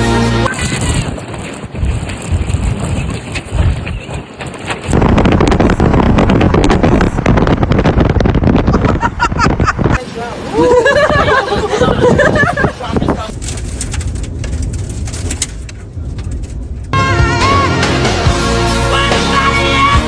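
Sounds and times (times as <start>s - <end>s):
wind buffeting microphone: 0.4s - 17.0s.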